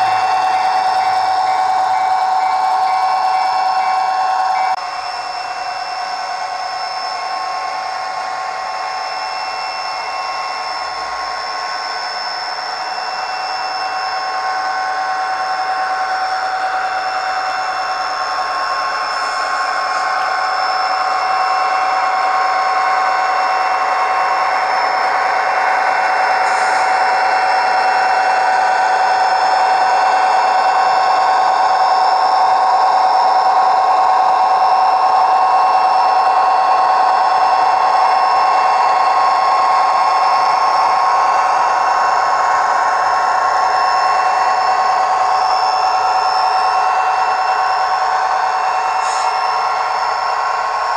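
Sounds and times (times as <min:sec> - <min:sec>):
model locomotive diesel engine sound: 0:00.0 - 0:50.9.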